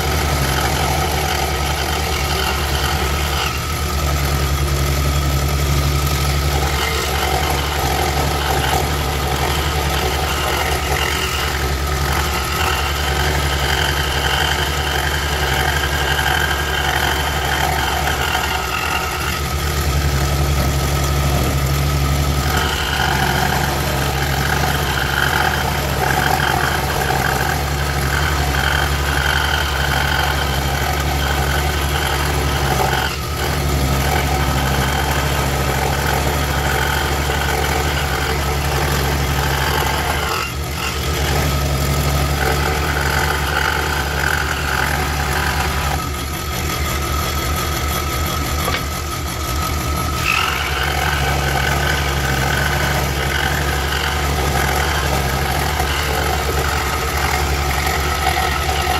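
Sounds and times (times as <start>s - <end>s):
scroll saw cutting wood: 0.0s - 58.9s.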